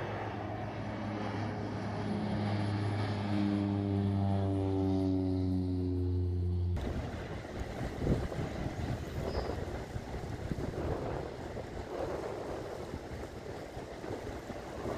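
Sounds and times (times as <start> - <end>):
propeller plane engine droning: 0.0 - 14.9.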